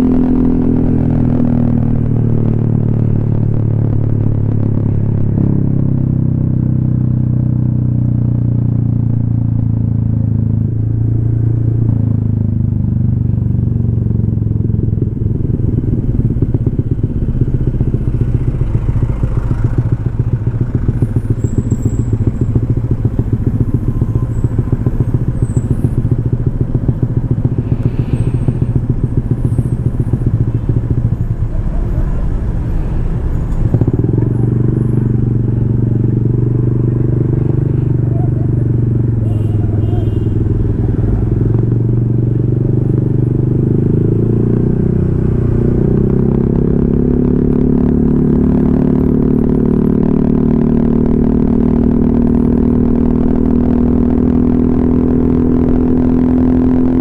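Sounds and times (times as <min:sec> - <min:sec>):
scooter engine running: 0:05.2 - 0:57.0.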